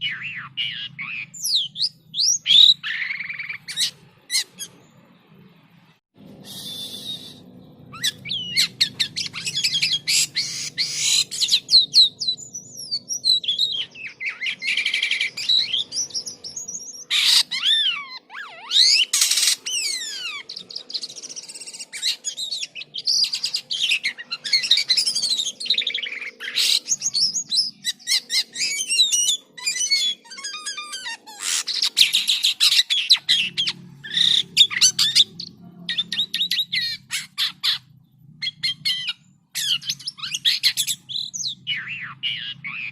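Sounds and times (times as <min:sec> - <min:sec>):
starling singing: 0:00.0 - 0:05.5, 0:06.3 - 0:42.9.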